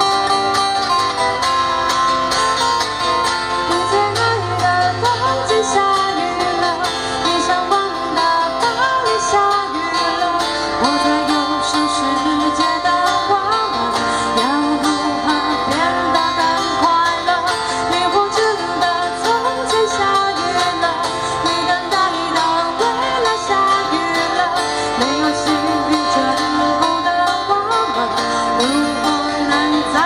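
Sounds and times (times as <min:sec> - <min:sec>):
acoustic guitar: 0:00.0 - 0:30.0
person singing into a microphone: 0:03.6 - 0:30.0.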